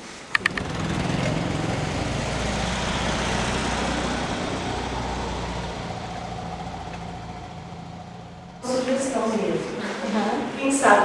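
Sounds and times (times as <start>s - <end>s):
vehicle engine humming: 0.3s - 10.5s.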